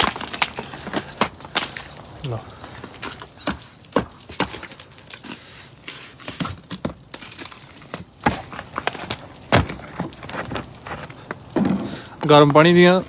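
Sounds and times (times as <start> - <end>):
ice cracking and crunching: 0.0 - 13.0.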